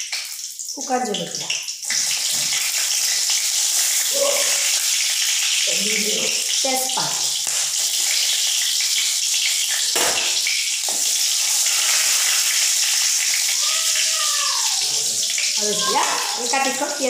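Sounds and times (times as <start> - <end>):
spices sizzling in a pan: 0.0 - 17.0.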